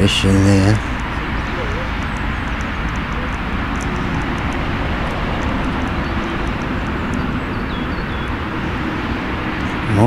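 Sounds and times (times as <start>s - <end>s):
outdoor rushing noise: 0.0s - 10.0s.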